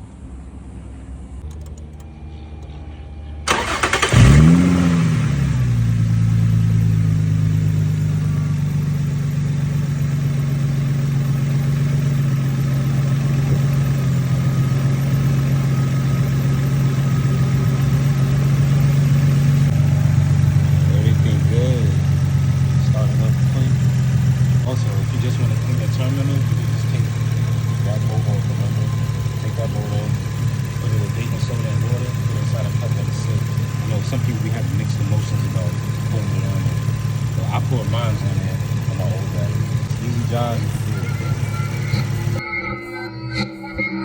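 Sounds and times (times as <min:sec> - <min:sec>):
car engine revving and idling: 0:00.0 - 0:42.4
starter motor cranking: 0:03.5 - 0:42.4.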